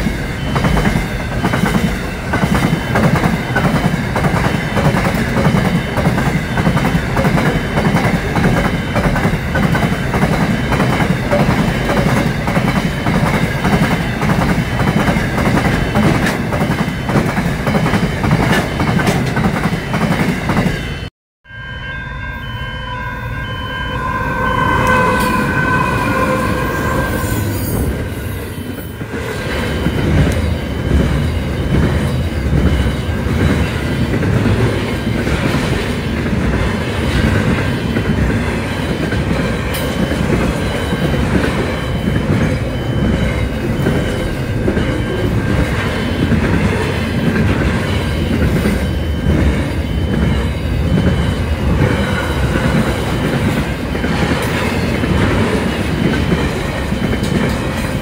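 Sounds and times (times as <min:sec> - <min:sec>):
freight train wheels rumbling on rails: 0:00.0 - 0:21.1, 0:23.4 - 0:58.0.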